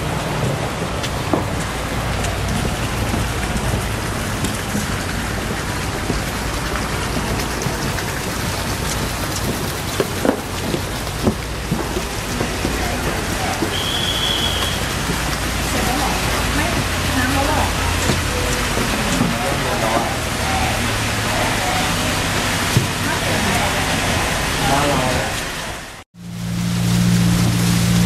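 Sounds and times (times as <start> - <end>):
water hissing: 0.0 - 28.0.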